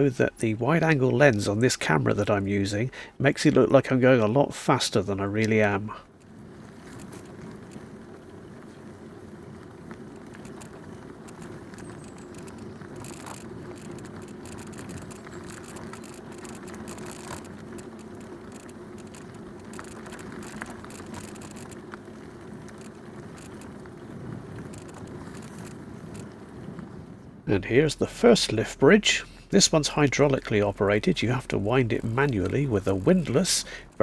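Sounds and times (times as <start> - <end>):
bicycle tyres rumbling on path: 0.0 - 34.0
bike clicks and rattles: 5.0 - 34.0.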